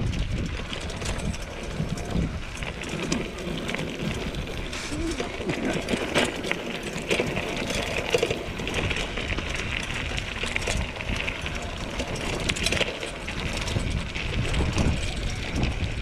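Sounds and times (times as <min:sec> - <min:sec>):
bike tyres crunching on gravel: 0:00.0 - 0:16.0
knocks and rattles of bike: 0:00.0 - 0:16.0.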